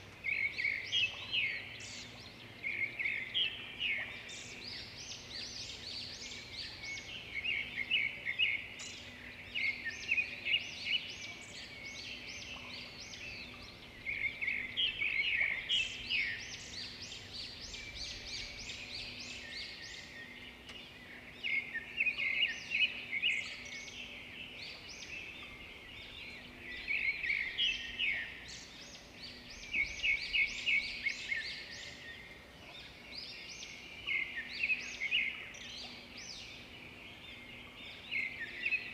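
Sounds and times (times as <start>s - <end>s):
songbirds chirping and trilling: 0.0s - 38.9s
quiet bird twittering: 0.2s - 38.9s.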